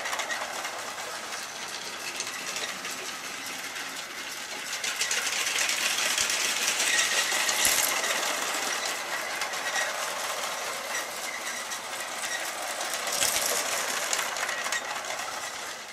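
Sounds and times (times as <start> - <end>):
toy train motor whirring: 0.0 - 15.9
toy train wheels rattling: 0.0 - 15.9.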